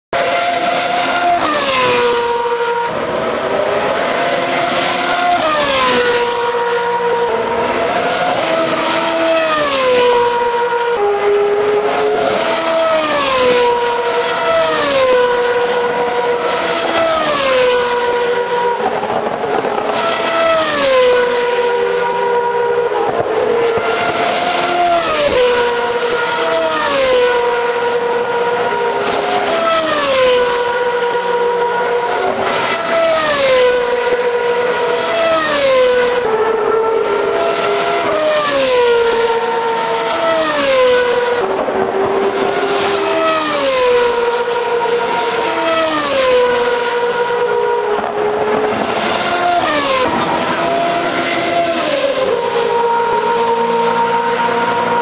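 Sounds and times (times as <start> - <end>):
race cars passing at speed: 0.2 - 55.0.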